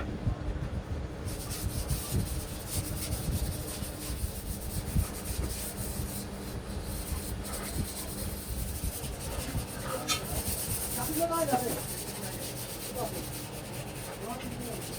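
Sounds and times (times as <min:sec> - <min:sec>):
wood being sanded by hand: 0:01.3 - 0:14.9.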